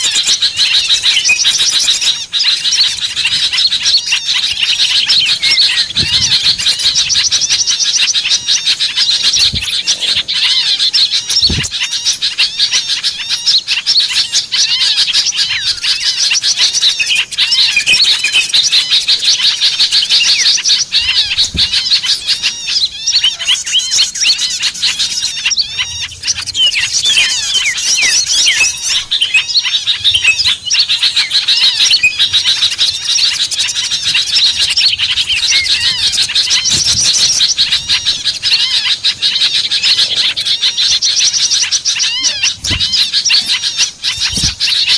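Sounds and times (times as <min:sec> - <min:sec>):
small birds chirping and twittering: 0:00.0 - 0:44.9.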